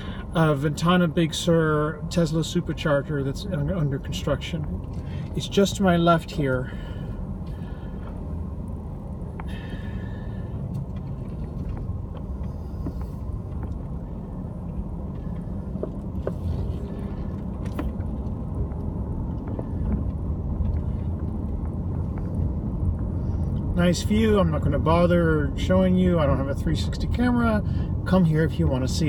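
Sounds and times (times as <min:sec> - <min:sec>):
car driving low rumble: 0:00.0 - 0:29.0.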